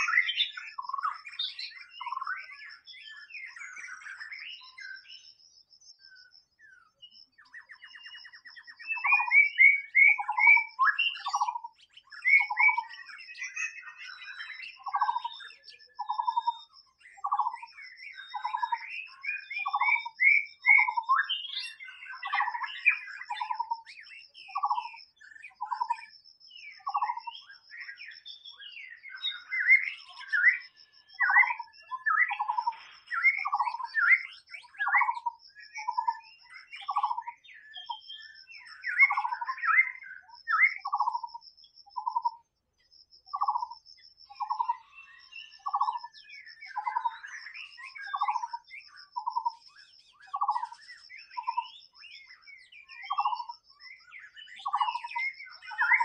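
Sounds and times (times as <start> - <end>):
bird singing whistled phrases: 0.0 - 42.5, 43.2 - 56.0.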